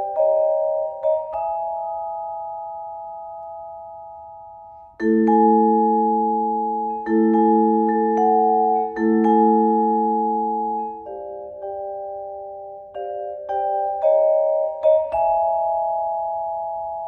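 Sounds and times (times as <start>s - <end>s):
vibraphone chords ringing: 0.0s - 17.0s.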